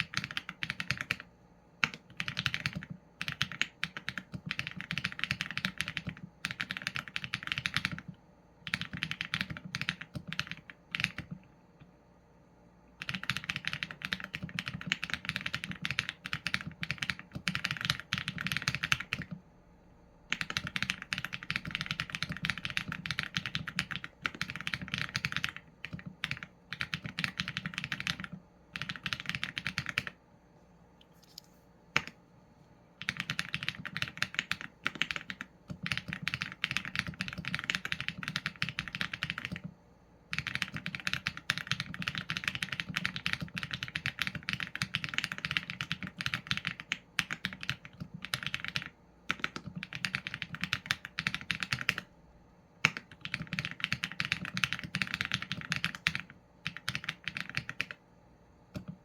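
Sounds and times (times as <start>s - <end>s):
fast typing on mechanical keyboard: 0.0s - 11.4s, 13.0s - 19.4s, 20.2s - 30.2s, 33.0s - 52.1s, 52.8s - 58.0s.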